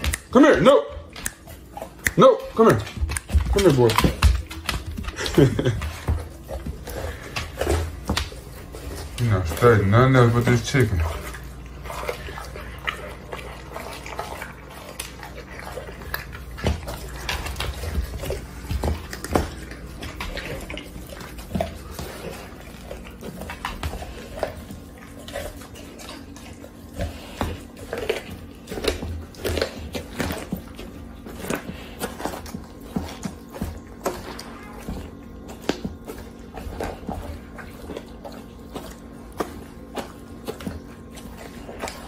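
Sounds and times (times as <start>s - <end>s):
dog chewing bone: 0.0s - 42.0s.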